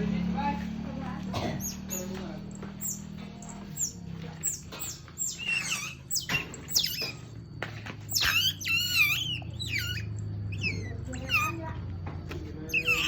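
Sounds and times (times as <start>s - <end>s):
small animal squeaking: 1.4s - 13.0s.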